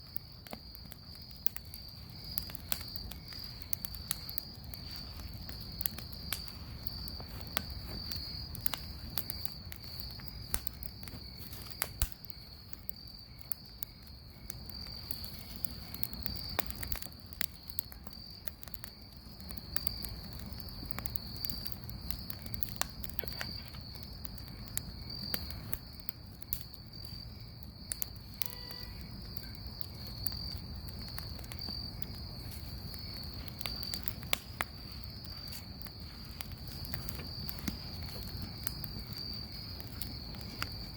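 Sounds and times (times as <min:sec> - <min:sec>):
bonfire crackling and popping: 0:00.0 - 0:40.9
crickets chirping: 0:00.0 - 0:40.9.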